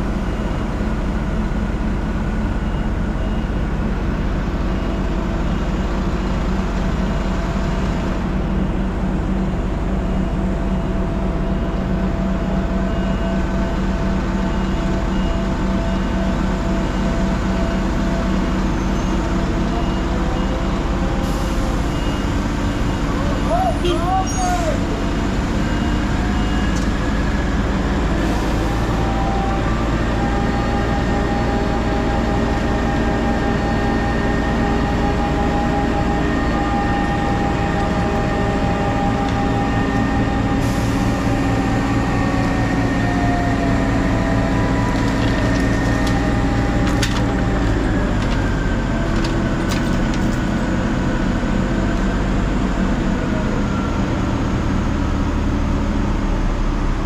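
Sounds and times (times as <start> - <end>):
diesel crane engine running: 0.0 - 57.0
engine whine: 0.0 - 57.0.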